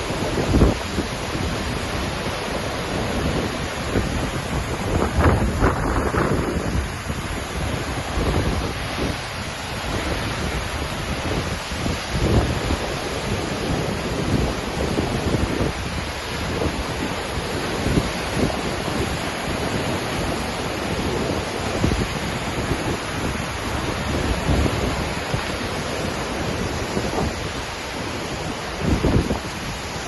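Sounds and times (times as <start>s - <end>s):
waterfall roaring: 0.0s - 30.0s
wind buffeting microphone: 0.0s - 30.0s.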